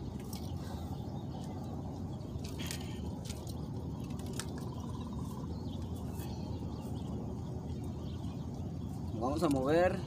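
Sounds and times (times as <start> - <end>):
bird trill: 0.0 - 10.0
birds chirping: 0.0 - 10.0
low rumble: 0.0 - 10.0.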